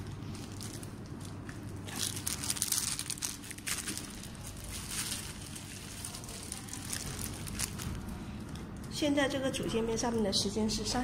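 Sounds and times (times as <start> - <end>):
plastic crinkling and rustling: 0.0 - 9.1
low steady hum: 0.0 - 11.0.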